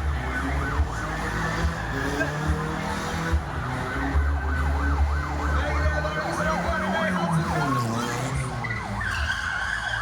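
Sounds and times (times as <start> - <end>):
siren yelping: 0.0 - 10.0.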